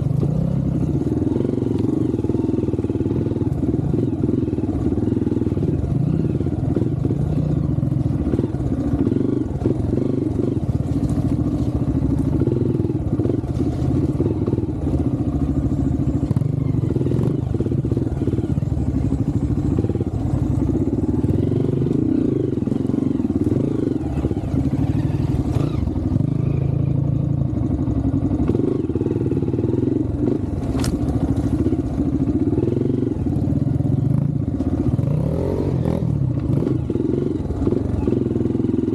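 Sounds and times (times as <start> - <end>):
knocks and rattles from motorcycle: 0.0 - 26.4, 27.0 - 38.9
motorcycle engine revving: 0.0 - 38.9.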